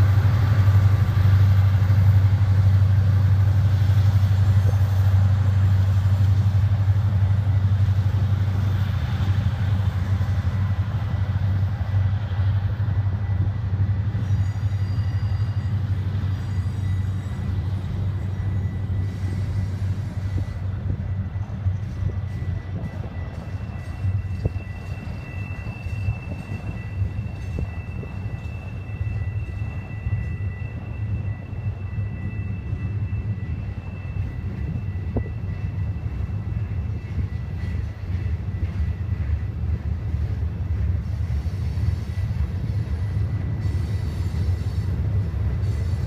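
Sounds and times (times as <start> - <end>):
diesel locomotives droning: 0.0 - 46.0.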